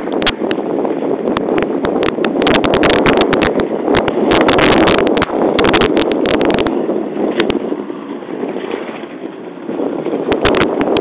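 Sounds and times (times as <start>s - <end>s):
boat engine running: 0.0s - 11.0s
wind buffeting microphone: 0.0s - 11.0s.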